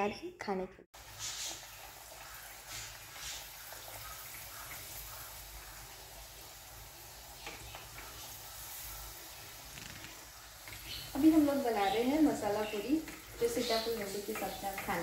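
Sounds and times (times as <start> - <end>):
oil sizzling while deep-frying: 0.9 - 15.0.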